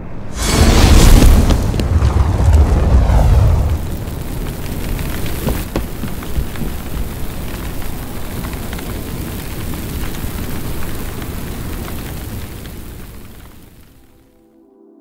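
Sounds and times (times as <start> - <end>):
fire rumbling: 0.2 - 14.3
fire crackling: 0.3 - 14.4.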